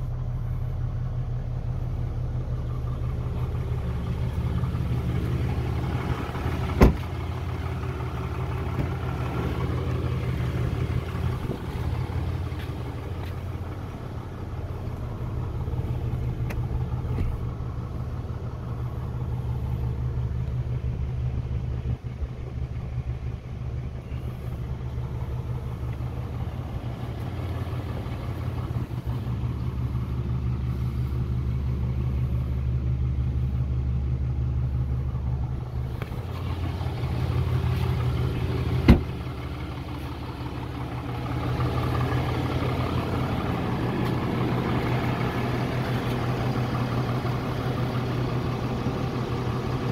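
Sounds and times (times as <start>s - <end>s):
pickup engine idling: 0.0s - 49.9s.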